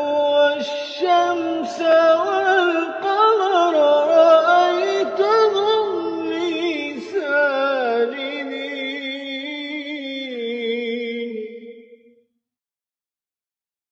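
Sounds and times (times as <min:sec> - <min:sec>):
man reciting melodically: 0:00.0 - 0:11.8.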